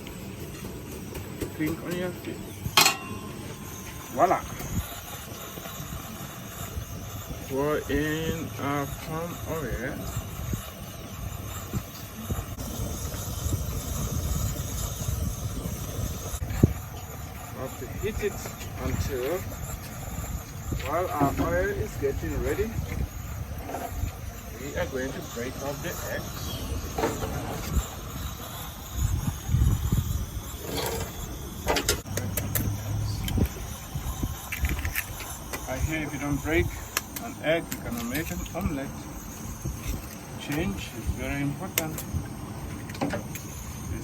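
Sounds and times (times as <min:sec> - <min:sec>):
gas stove burner hissing: 0:00.0 - 0:44.0
wind buffeting microphone: 0:02.5 - 0:44.0.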